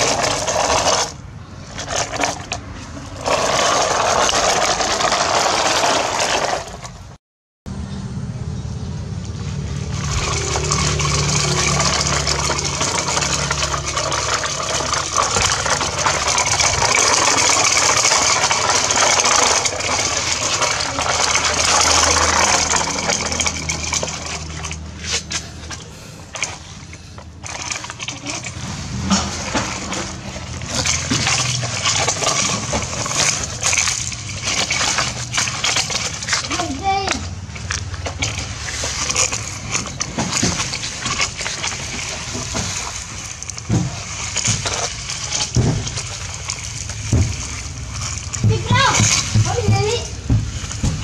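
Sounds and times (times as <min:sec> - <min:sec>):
toy trucks scraping over gravel: 0:00.0 - 0:07.2, 0:09.4 - 0:51.0
plastic bucket clicking in sand: 0:01.8 - 0:07.0, 0:10.1 - 0:25.8, 0:27.4 - 0:51.0.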